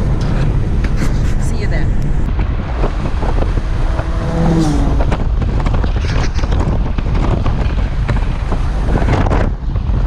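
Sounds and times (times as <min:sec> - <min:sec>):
low road rumble: 0:00.0 - 0:10.0
wind buffeting microphone: 0:00.0 - 0:10.0.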